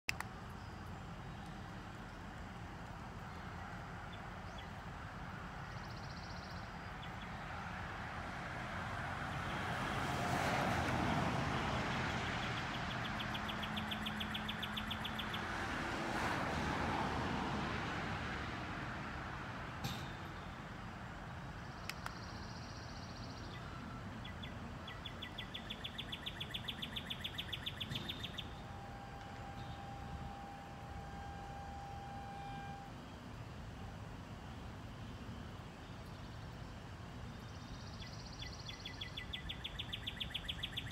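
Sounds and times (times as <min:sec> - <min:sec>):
passing vehicle: 0:01.0 - 0:40.9.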